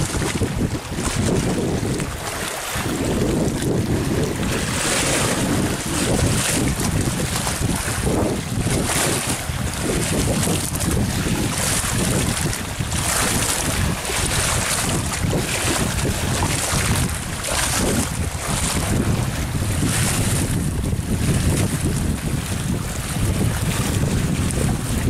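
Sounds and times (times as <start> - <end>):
water splashing against a bank: 0.0 - 20.6
wind buffeting microphone: 0.0 - 25.0.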